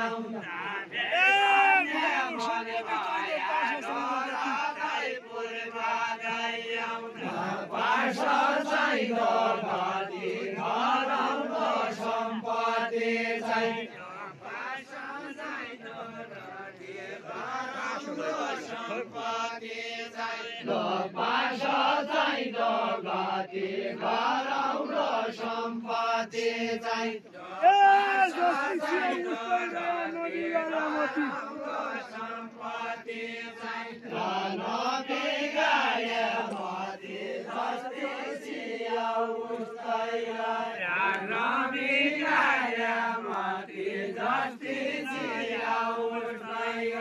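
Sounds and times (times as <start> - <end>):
men singing folk song together: 0.0 - 47.0.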